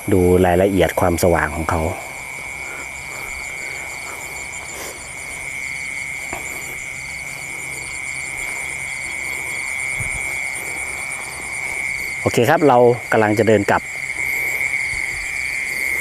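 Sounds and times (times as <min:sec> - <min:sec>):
crickets chirping rapidly: 0:00.0 - 0:16.0
frogs calling low: 0:00.0 - 0:16.0
insects trilling: 0:00.0 - 0:16.0.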